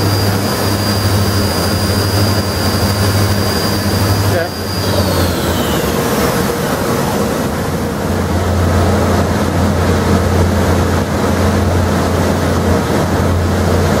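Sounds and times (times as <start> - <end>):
machine spindle humming and rushing: 0.0 - 14.0.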